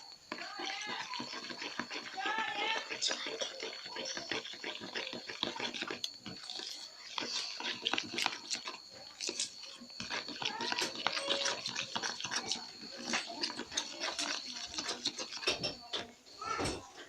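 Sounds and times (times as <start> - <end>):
spoon stirring sticky slime: 0.0 - 17.0.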